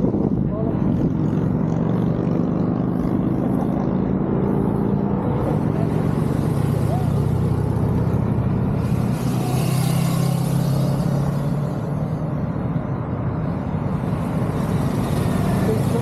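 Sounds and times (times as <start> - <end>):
motorcycles riding past: 0.0 - 16.0.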